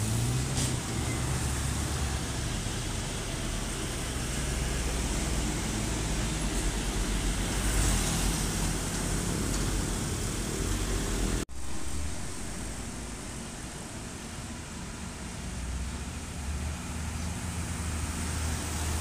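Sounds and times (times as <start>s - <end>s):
diesel truck engines rumbling: 0.0s - 19.0s.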